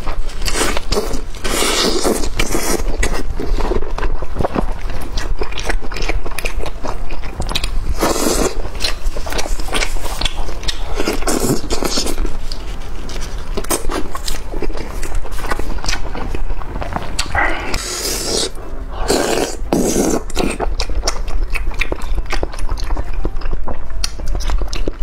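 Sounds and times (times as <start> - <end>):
wet chewing with lip smacks: 0.0 - 25.0.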